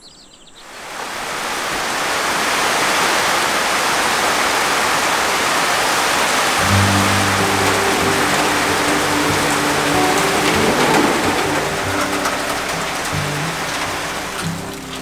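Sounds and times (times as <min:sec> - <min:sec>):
heavy rain pouring: 0:00.7 - 0:15.0.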